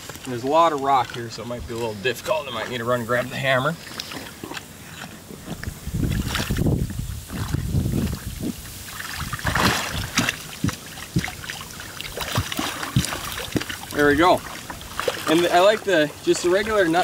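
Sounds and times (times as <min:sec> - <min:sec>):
boot stamping into water: 0:00.0 - 0:17.0
water sloshing around waders: 0:00.0 - 0:17.0.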